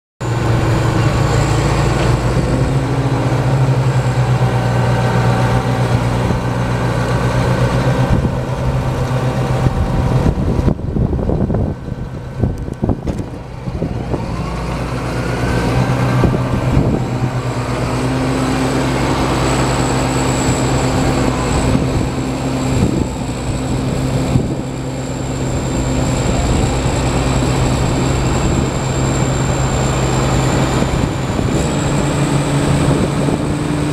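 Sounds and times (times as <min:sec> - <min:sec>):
diesel tractor engine idling: 0:00.2 - 0:33.9.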